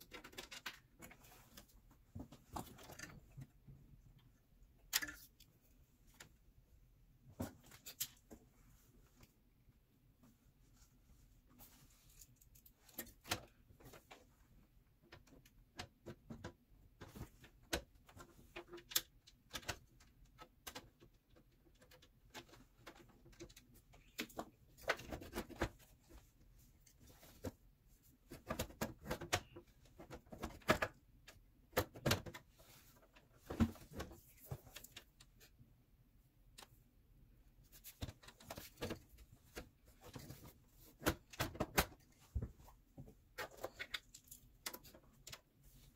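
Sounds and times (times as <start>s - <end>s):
hands handling computer parts: 0.0s - 6.6s, 7.2s - 9.4s, 10.2s - 45.9s.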